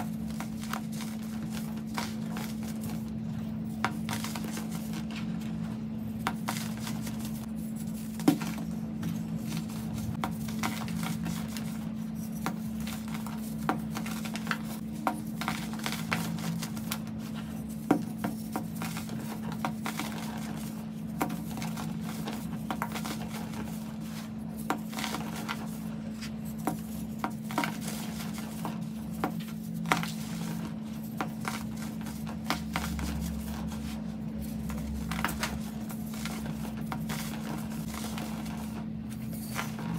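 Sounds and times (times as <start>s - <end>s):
hands crushing baking soda chunks: 0.0s - 39.9s
steady low hum: 0.0s - 39.9s.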